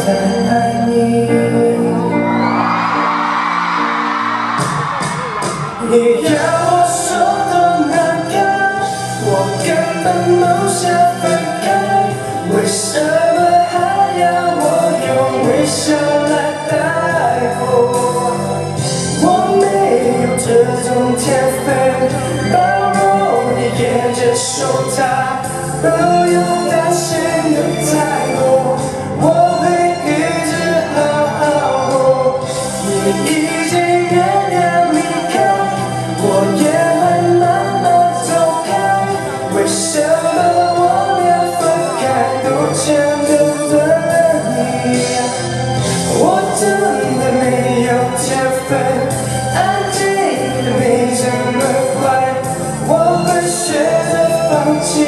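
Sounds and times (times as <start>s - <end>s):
man singing into microphone: 0.0s - 3.1s, 3.8s - 55.0s
backing music: 0.0s - 55.0s.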